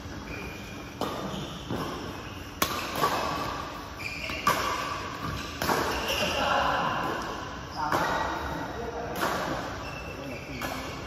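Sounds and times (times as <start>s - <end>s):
rackets hitting shuttlecock: 0.7s - 8.4s, 9.0s - 9.8s, 10.5s - 11.0s.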